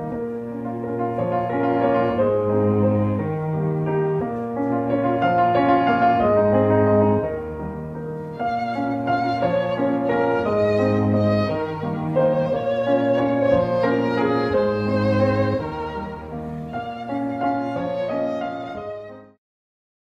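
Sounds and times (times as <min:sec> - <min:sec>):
piano: 0:00.0 - 0:19.4
violin melody: 0:00.0 - 0:19.4.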